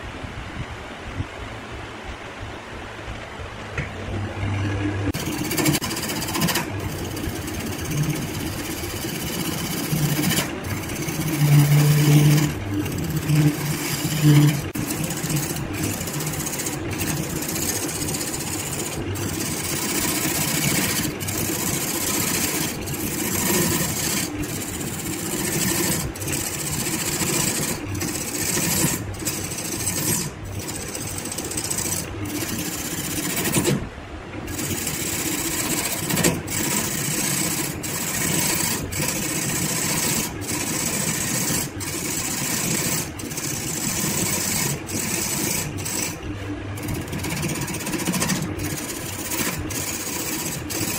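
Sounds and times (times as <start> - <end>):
wood lathe running: 4.4 - 50.9
turning tool scraping wood: 5.1 - 33.9, 34.5 - 50.9.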